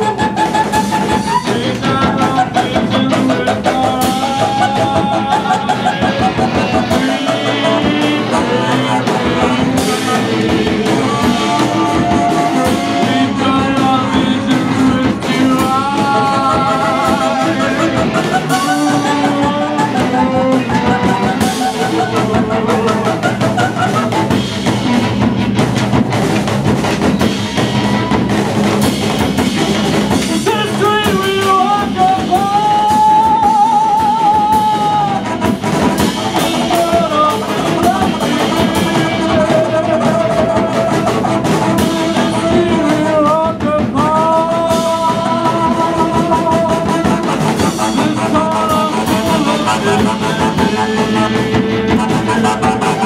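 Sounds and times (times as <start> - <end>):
person singing: 0.0 - 25.0, 30.1 - 53.0
drum kit: 0.0 - 53.0
electric guitar: 0.0 - 53.0
reed instrument melody: 0.0 - 53.0.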